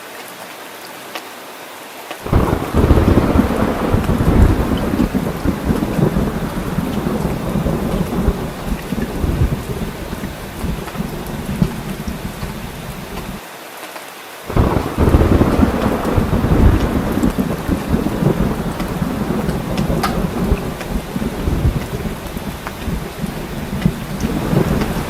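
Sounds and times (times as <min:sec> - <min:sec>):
rain falling: 0:00.0 - 0:25.0
low rumble of thunder: 0:02.2 - 0:13.4, 0:14.5 - 0:25.0.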